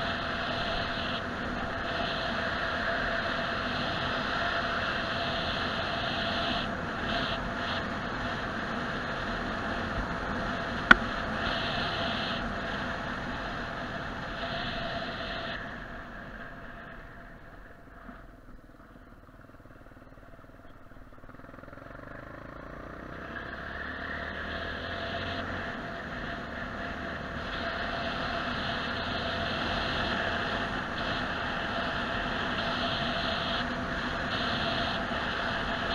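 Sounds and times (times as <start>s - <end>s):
car engine and tyre noise: 0.0s - 35.9s.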